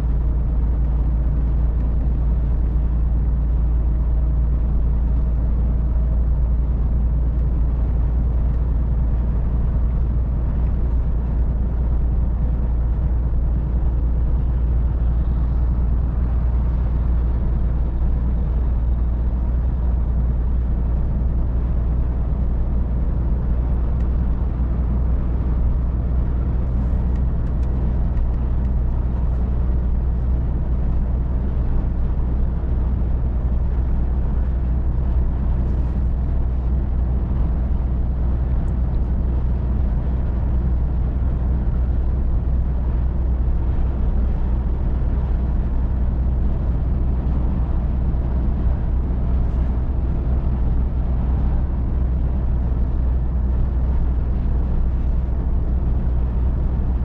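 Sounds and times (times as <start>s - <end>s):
truck diesel engine droning: 0.0s - 57.0s
tyre and road rumble: 0.0s - 57.0s.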